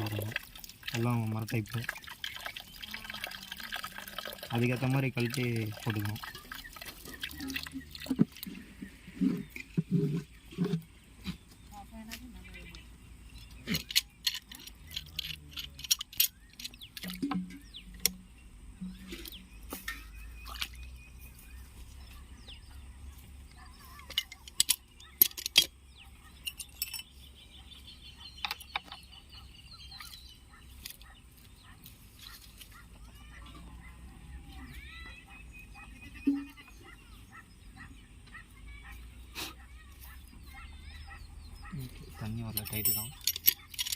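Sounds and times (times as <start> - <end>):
birds chirping faintly: 0.0 - 43.9.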